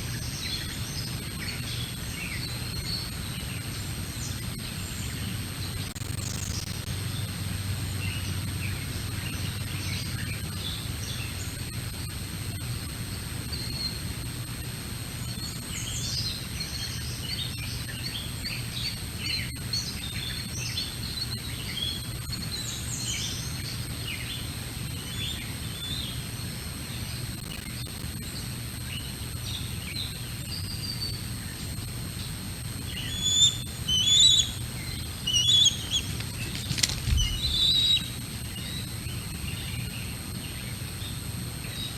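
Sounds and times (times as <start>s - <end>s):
small birds chirping: 0.0s - 11.7s, 15.3s - 41.9s
steady low hum: 0.0s - 41.9s.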